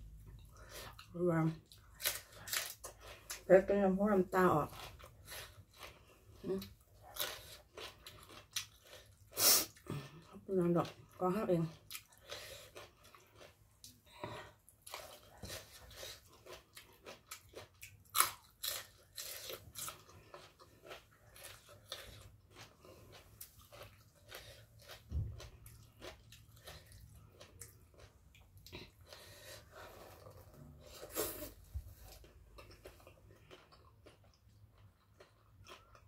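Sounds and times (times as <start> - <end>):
person chewing and crunching food: 0.0 - 36.0.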